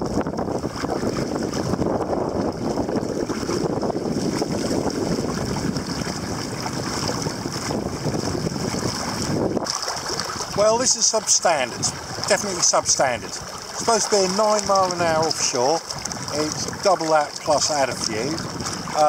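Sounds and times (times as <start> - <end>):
water lapping around kayak: 0.0 - 19.0
wind buffeting microphone: 0.0 - 19.0.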